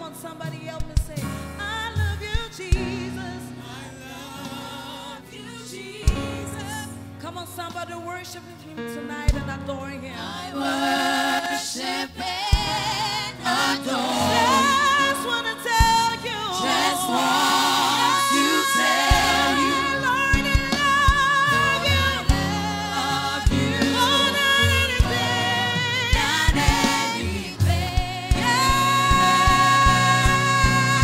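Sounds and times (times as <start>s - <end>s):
instrumental backing: 0.0s - 31.0s
woman lead singer: 0.0s - 31.0s
gospel choir singing: 2.7s - 7.0s, 10.0s - 31.0s.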